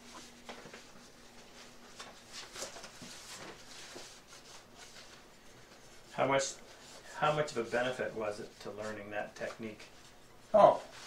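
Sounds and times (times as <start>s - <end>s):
faint rustling and scraping: 0.0s - 11.0s
soft strokes: 0.0s - 11.0s.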